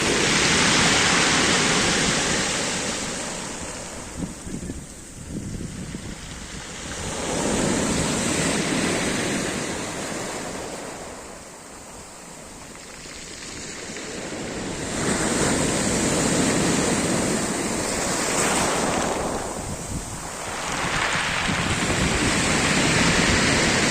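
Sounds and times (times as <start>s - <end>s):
surf breaking on shore: 0.0s - 23.9s.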